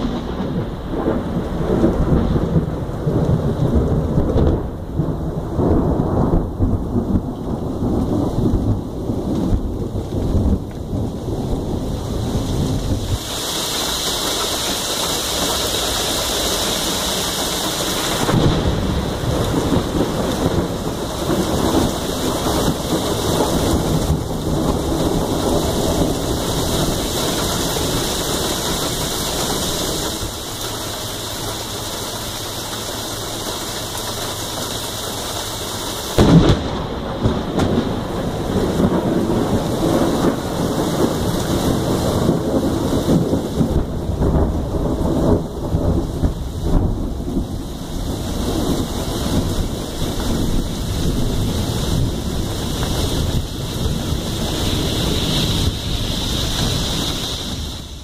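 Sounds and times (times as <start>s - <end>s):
loud crack of thunder: 0.0s - 14.0s, 14.7s - 30.4s, 36.1s - 58.0s
steady rain: 0.0s - 58.0s
thunder rumbling: 0.0s - 58.0s.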